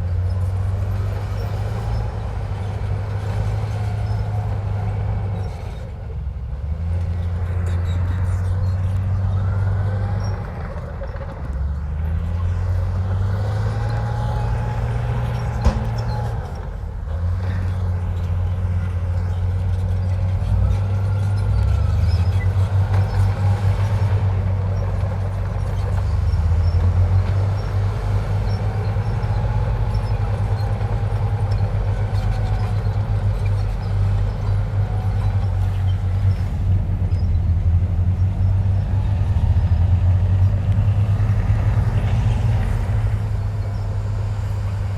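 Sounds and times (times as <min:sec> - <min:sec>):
heavy diesel machinery running: 0:00.0 - 0:44.9.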